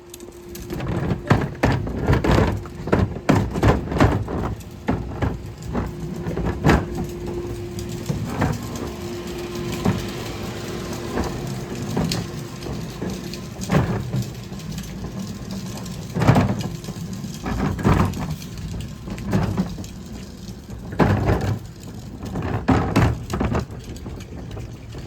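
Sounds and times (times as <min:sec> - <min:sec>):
plastic trash can rolling: 0:00.0 - 0:25.0.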